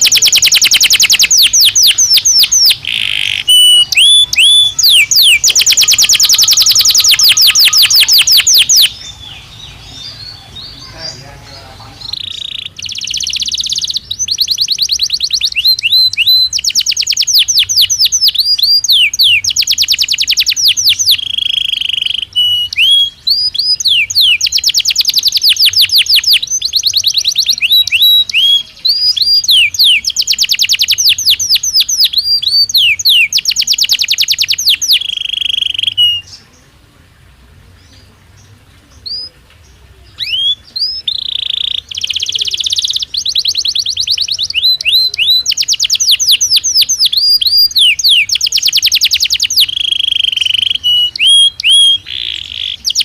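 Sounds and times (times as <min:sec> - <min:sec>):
canary singing trills: 0:00.0 - 0:36.8, 0:37.8 - 0:53.0.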